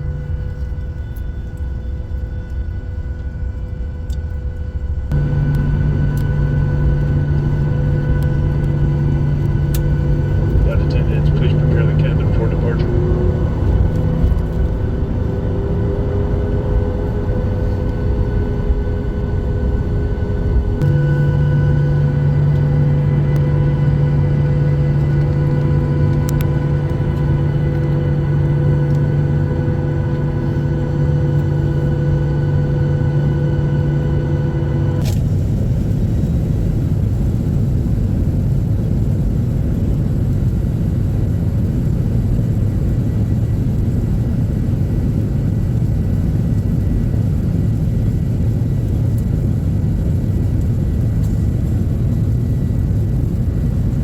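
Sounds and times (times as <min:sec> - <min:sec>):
airliner engine hum: 0:00.0 - 0:54.0
loud even cabin rumble: 0:04.5 - 0:54.0.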